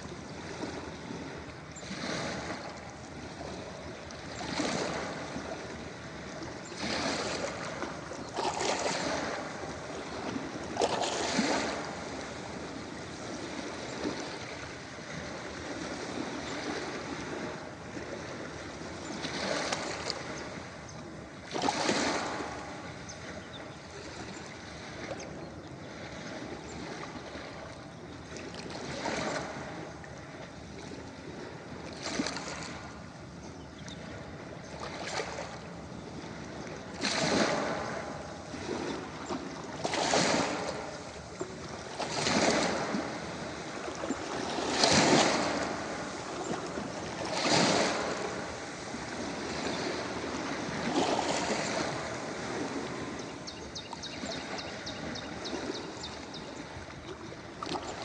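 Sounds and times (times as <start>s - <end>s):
ocean waves crashing on beach: 0.0s - 27.7s, 34.0s - 58.0s.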